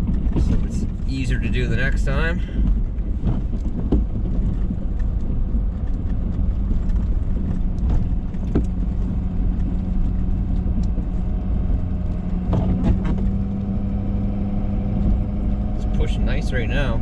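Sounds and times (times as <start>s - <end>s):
plow knocks and scrapes: 0.0s - 13.8s
truck engine rumbling under load: 0.0s - 17.0s.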